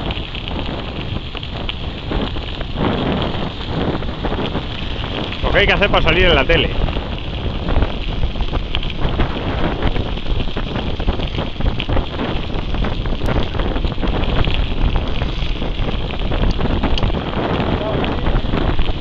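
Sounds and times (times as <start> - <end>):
bike rattling on gravel: 0.0 - 19.0
wind buffeting microphone: 0.0 - 19.0.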